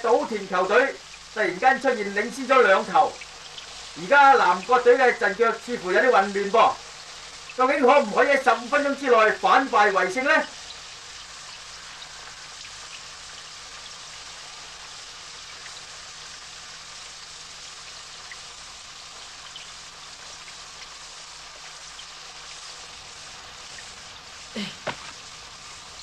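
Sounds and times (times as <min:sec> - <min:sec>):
raindrops ticking: 0:00.0 - 0:26.0
steady rain hiss: 0:00.0 - 0:26.0.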